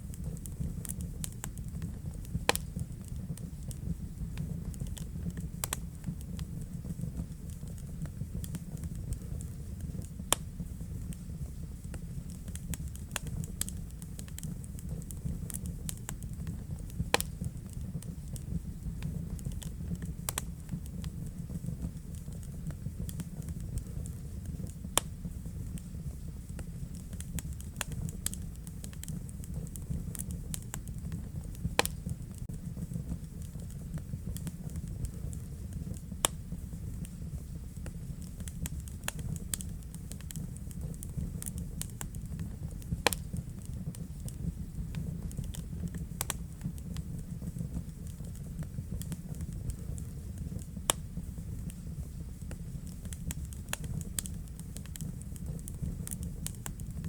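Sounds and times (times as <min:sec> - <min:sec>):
fire crackles and pops: 0:00.0 - 0:57.0
flames rumbling: 0:00.0 - 0:57.0.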